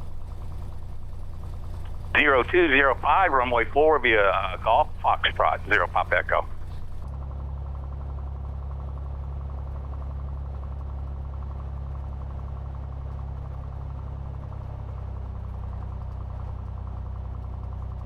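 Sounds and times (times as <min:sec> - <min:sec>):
airplane engine running: 0:00.0 - 0:18.0.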